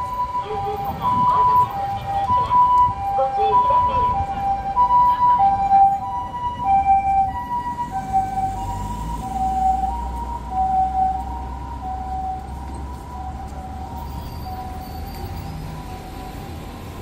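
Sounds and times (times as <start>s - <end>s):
two-tone ambulance siren: 0.0s - 17.0s.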